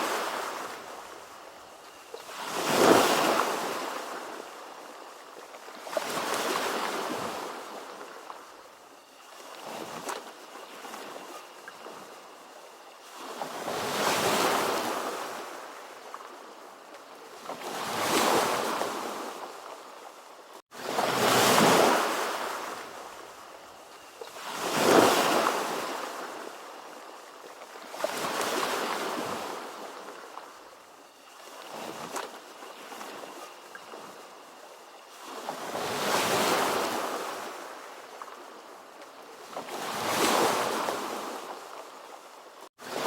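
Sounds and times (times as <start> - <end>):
ocean waves washing in: 0.0 - 43.0.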